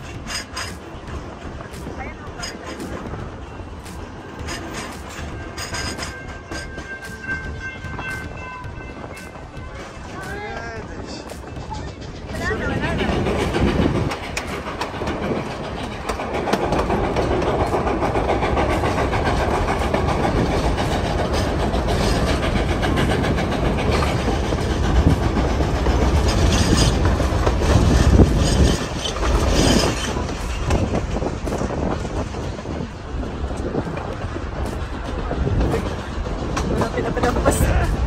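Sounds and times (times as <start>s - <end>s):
train rumbling: 0.0s - 38.0s
wheels clacking over rail joints: 0.0s - 38.0s.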